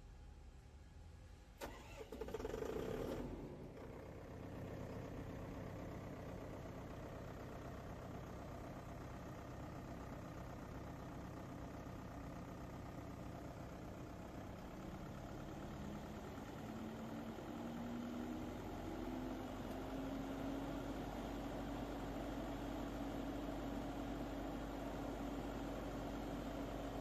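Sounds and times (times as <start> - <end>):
diesel engine running: 1.6 - 27.0.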